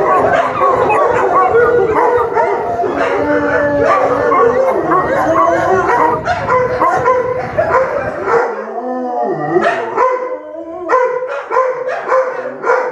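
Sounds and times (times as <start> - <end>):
dogs barking: 0.0 - 8.8, 9.5 - 12.9
dogs howling: 0.0 - 12.9.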